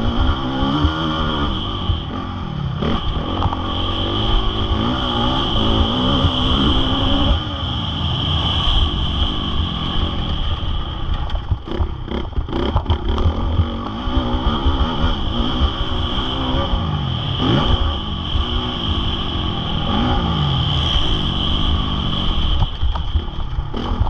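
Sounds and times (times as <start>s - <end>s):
motocross engine revving: 0.0s - 10.8s, 11.5s - 24.0s.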